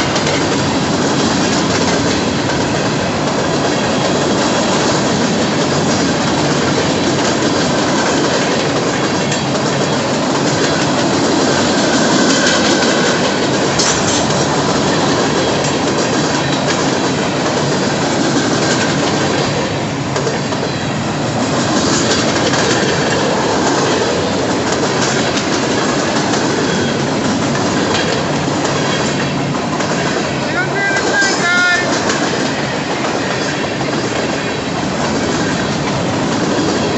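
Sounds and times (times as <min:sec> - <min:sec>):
freight train wheels rumbling: 0:00.0 - 0:36.9
rail joints clickety-clack: 0:00.0 - 0:36.9.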